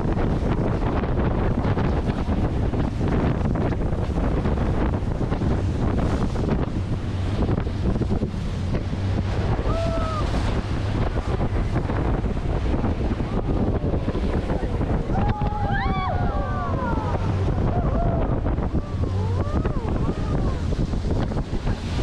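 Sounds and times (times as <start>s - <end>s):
boat motor: 0.0s - 22.0s
rush of water: 0.0s - 22.0s
wind buffeting microphone: 0.0s - 22.0s.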